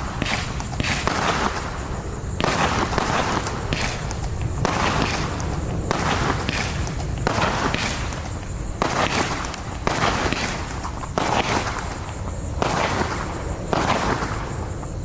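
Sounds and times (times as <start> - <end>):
fireworks hissing and cracking: 0.0 - 15.0.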